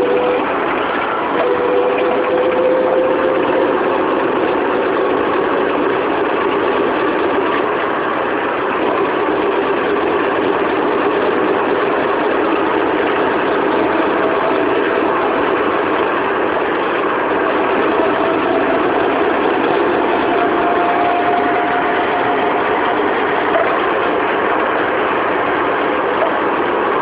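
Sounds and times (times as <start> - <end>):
faint whine: 0.0 - 27.0
higher whine: 0.0 - 27.0.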